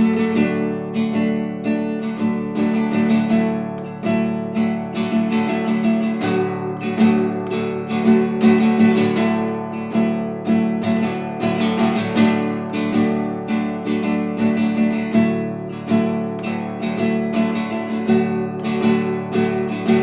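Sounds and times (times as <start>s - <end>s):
fingerpicked classical guitar: 0.0s - 20.0s.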